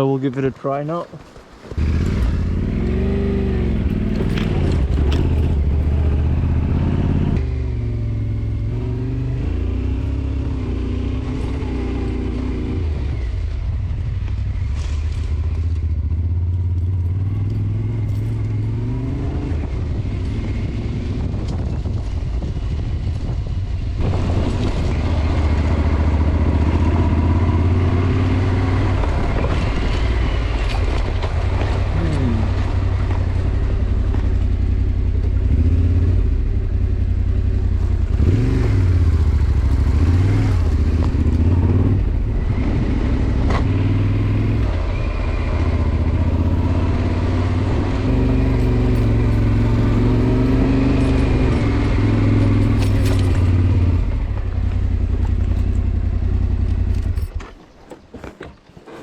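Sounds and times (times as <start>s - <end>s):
motorcycle engine revving: 1.8s - 57.5s.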